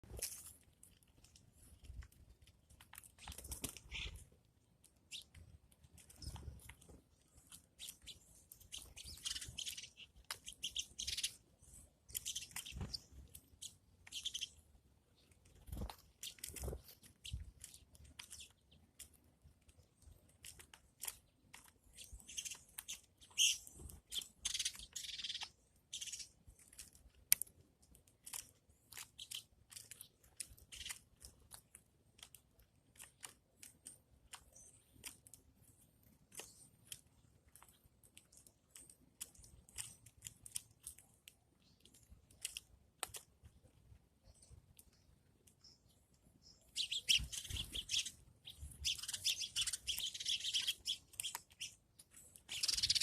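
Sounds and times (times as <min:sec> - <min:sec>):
sharp clicks and crunches: 0:00.0 - 0:53.0
small bird chirping: 0:00.0 - 0:53.0.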